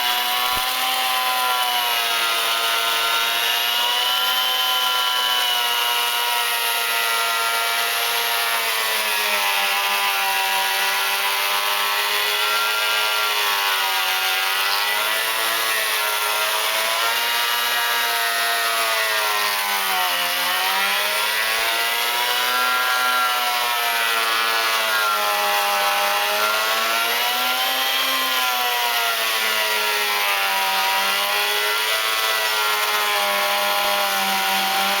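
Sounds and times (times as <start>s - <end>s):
planer cutting wood: 0.0s - 35.0s.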